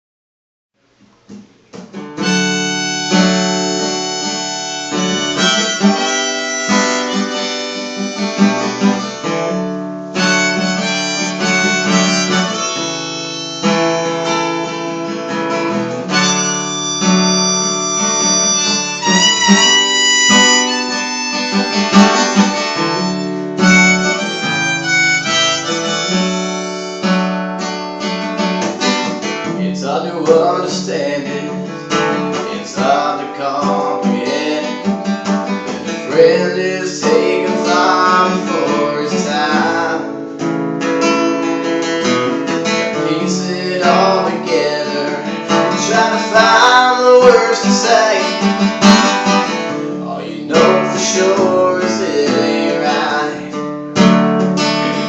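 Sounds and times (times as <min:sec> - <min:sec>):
strummed acoustic guitar: 0:01.1 - 0:55.0
harmonica playing: 0:02.2 - 0:29.1, 0:30.9 - 0:40.1, 0:40.9 - 0:53.4.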